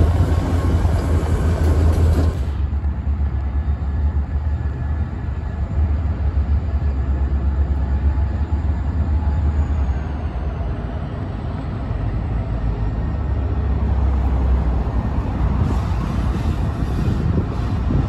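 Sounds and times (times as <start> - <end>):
diesel locomotive passing: 0.0 - 18.0
low rumble of diesel locomotives: 0.0 - 18.0.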